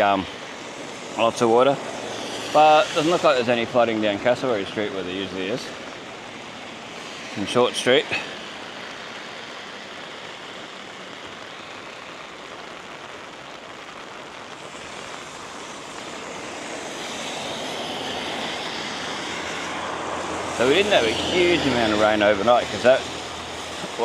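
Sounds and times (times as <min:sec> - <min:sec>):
rain hiss: 0:00.0 - 0:24.0.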